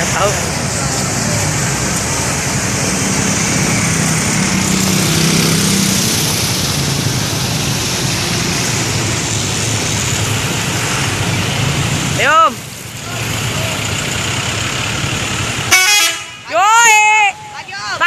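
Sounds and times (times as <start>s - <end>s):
bus engine humming: 0.0s - 18.0s
road traffic roar: 0.0s - 18.0s.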